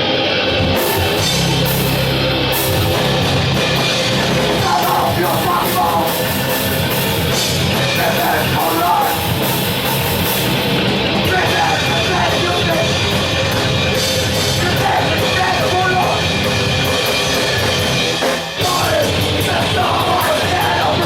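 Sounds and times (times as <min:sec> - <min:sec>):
distorted guitars and drums: 0:00.0 - 0:21.0
harsh vocals: 0:00.0 - 0:21.0.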